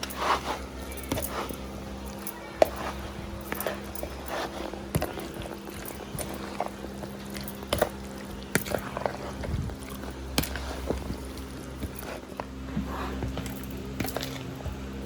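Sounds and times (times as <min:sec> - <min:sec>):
wet squishing: 0:00.0 - 0:14.5
steady low hum: 0:00.0 - 0:15.0.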